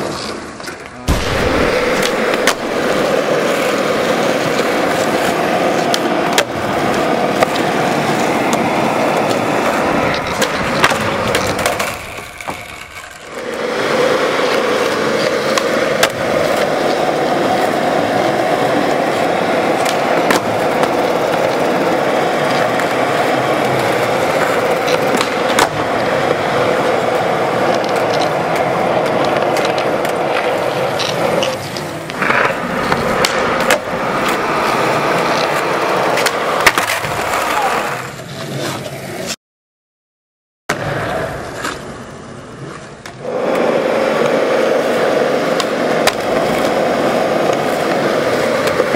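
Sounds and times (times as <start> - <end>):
skateboard clacking on landing: 0.0 - 38.1, 45.1 - 48.9
skateboard wheels rolling on concrete: 0.0 - 39.4, 40.7 - 48.9.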